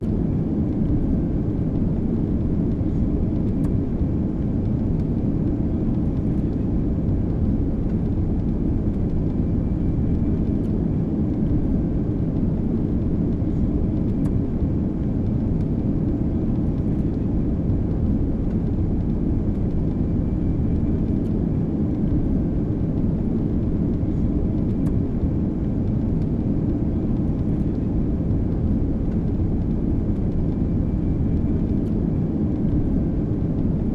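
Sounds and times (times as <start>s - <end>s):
jet engines deep rumble: 0.0s - 33.9s.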